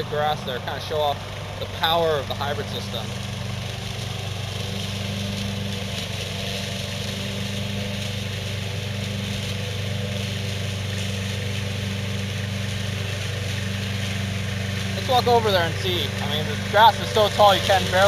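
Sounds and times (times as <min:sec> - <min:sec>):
small gas engine running: 0:00.0 - 0:18.0.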